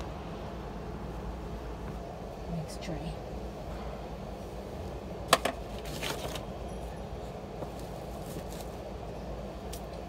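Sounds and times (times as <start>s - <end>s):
low city hum: 0.0s - 10.0s.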